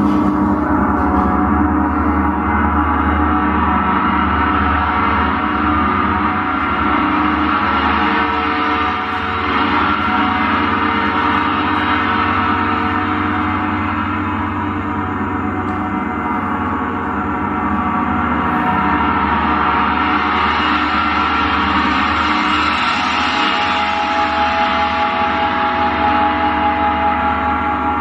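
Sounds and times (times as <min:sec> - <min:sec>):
ambient drone music: 0:00.0 - 0:28.0.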